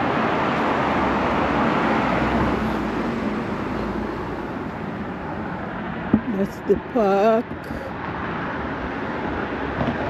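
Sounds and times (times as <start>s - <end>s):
road traffic rushing: 0.0s - 10.0s.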